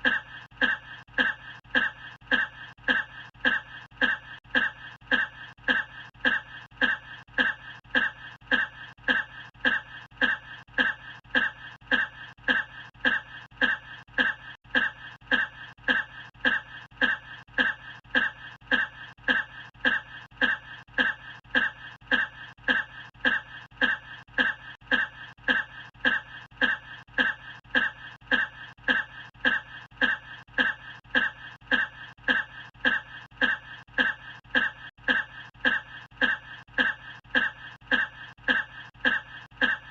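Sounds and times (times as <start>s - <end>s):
person coughing: 0.0s - 39.9s.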